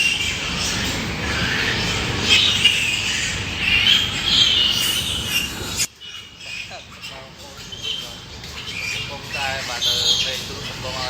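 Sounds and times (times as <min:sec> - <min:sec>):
pigs squealing: 0:00.0 - 0:11.0.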